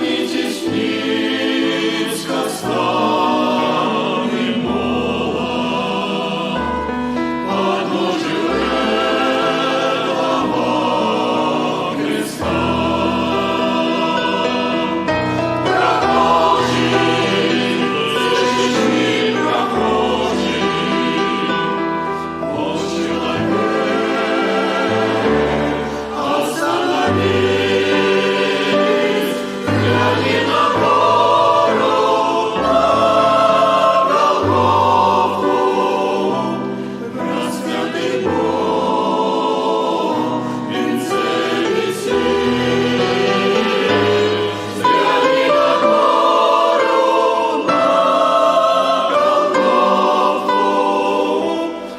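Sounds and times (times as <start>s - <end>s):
choir singing: 0.0s - 51.9s.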